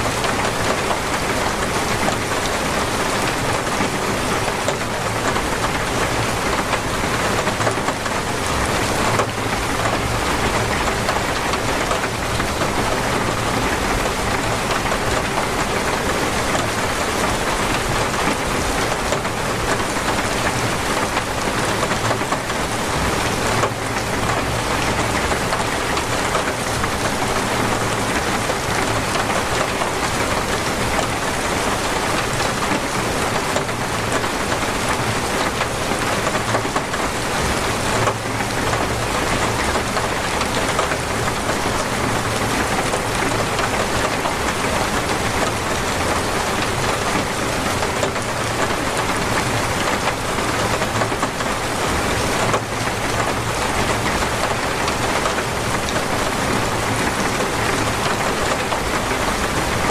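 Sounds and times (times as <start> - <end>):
heavy rain drumming on surfaces: 0.0 - 59.9.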